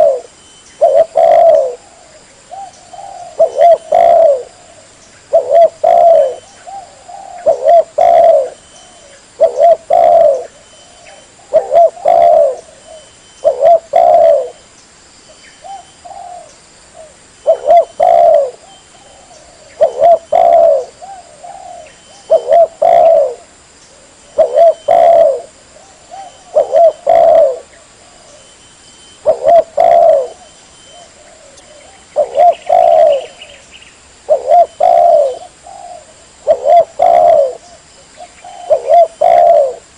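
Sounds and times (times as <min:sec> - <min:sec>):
dove cooing: 0:00.0 - 0:14.6, 0:15.6 - 0:39.9.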